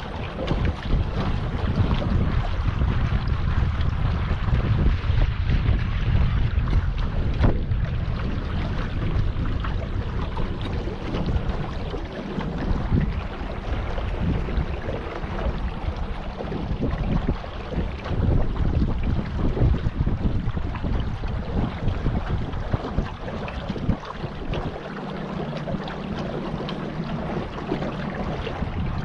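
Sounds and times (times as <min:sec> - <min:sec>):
rushing water: 0:00.0 - 0:29.0
wind buffeting microphone: 0:00.0 - 0:29.0.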